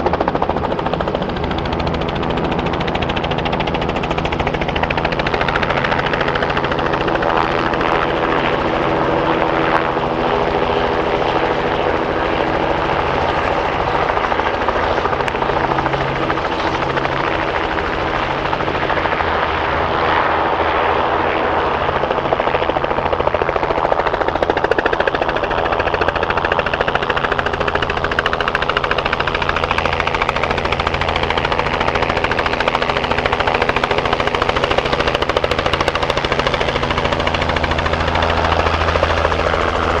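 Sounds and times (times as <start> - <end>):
helicopter engine drone: 0.0 - 40.0
helicopter rotor beating: 0.0 - 40.0.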